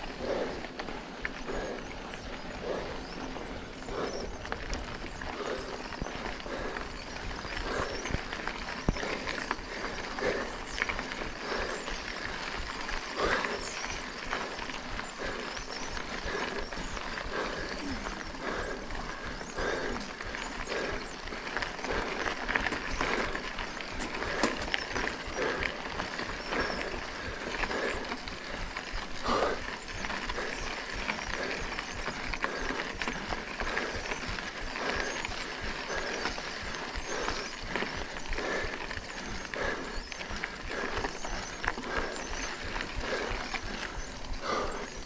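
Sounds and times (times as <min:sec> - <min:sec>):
mountain bike tyre noise: 0:00.0 - 0:45.0.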